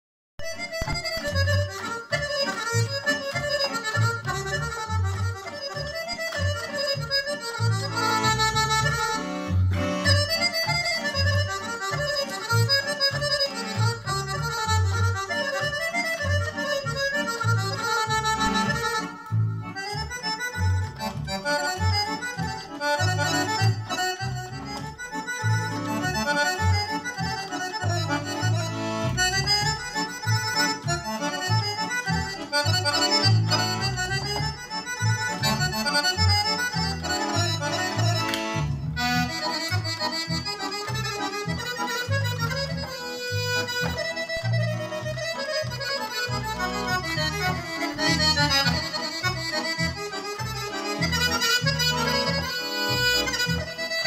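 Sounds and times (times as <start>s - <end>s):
accordion playing lively dance tune: 0.4s - 54.0s.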